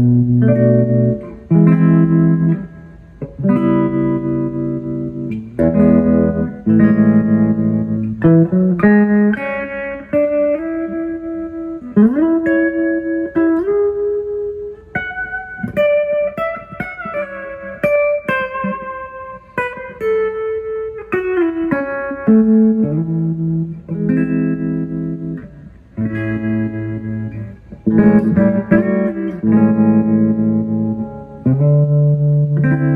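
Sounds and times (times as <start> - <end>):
electric guitar playing: 0.0 - 32.9.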